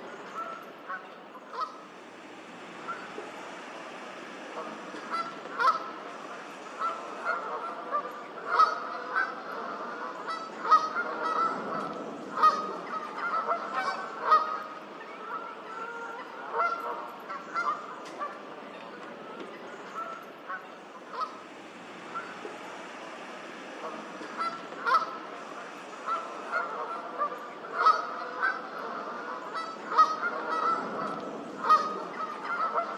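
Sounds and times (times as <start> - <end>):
geese honking: 0.0 - 32.9.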